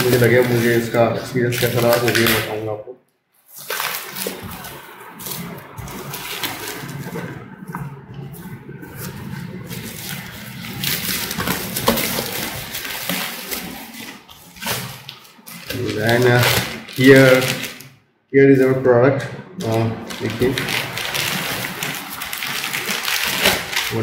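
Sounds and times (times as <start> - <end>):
plastic wrap crinkling: 0.0 - 18.0, 18.6 - 24.0.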